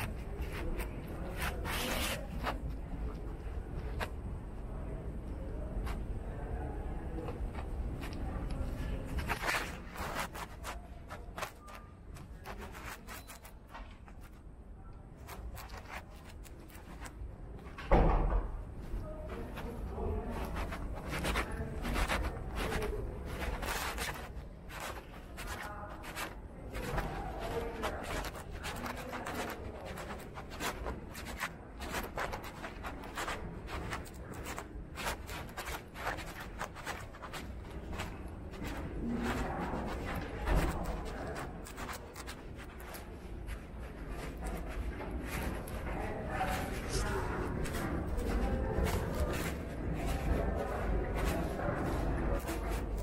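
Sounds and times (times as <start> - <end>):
low indoor room tone: 0.0 - 53.0
soft rubbing and rustling: 0.0 - 53.0.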